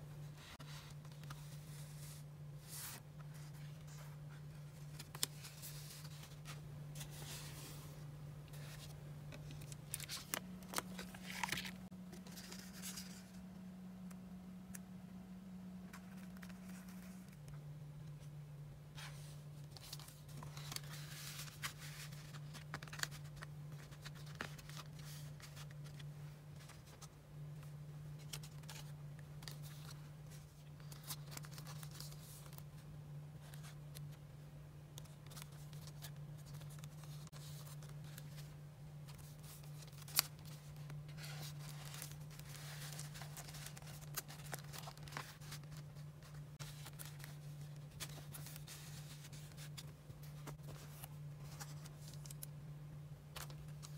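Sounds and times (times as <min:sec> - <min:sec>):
steady low hum: 0:00.0 - 0:53.9
paper pages rustling: 0:00.3 - 0:13.4, 0:15.9 - 0:17.5, 0:19.0 - 0:32.8, 0:35.0 - 0:52.5.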